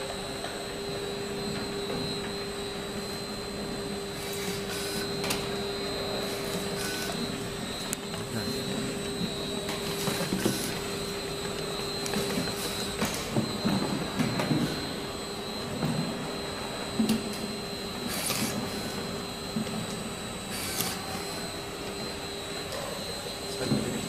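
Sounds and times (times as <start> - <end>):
machine motor hum: 0.0 - 24.0.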